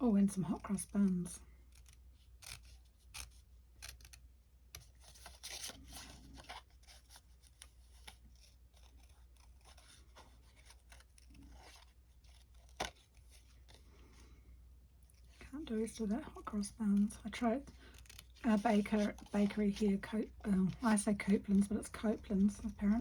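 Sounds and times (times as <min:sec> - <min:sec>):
scissors snipping paper: 0:00.4 - 0:13.8, 0:16.5 - 0:23.0.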